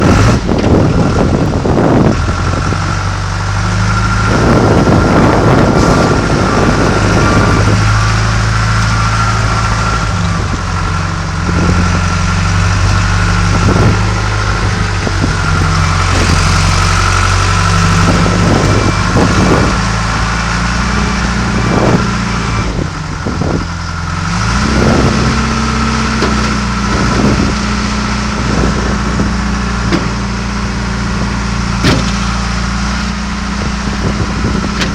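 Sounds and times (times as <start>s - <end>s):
knocks and clunks: 0.0s - 2.9s, 3.6s - 22.6s, 23.2s - 34.9s
diesel engine running: 0.0s - 34.9s.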